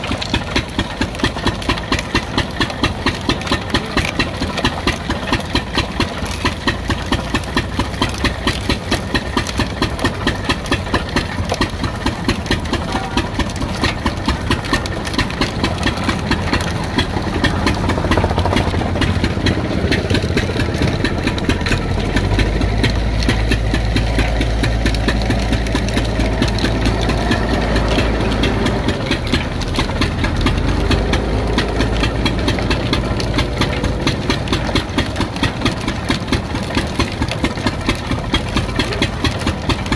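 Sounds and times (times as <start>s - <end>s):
engine-driven crushing mill running: 0.0s - 39.9s.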